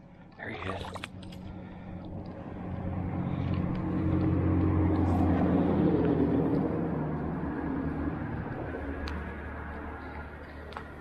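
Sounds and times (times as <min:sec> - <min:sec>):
vehicle passing by: 0:00.4 - 0:11.0.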